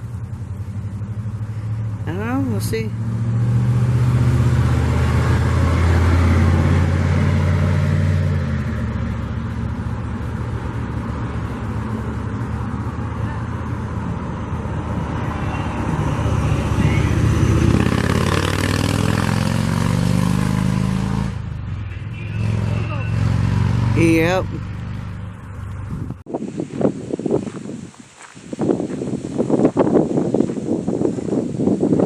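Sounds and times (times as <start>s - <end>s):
vehicle engine droning: 0.0s - 27.6s.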